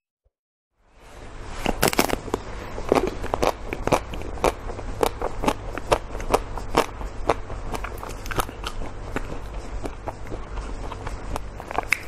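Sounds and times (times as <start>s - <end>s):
low steady hum: 0.8s - 12.0s
chewing frozen ice cream: 1.6s - 12.0s.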